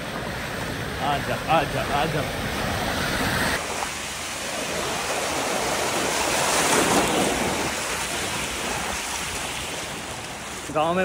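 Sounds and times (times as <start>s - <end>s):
floodwater splashing and rushing: 0.0s - 11.0s.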